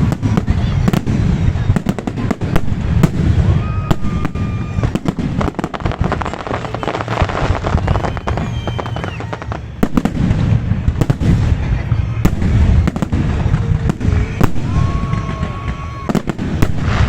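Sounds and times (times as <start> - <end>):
firework whistles: 0.0 - 17.0
fireworks bangs and crackling: 0.0 - 17.0.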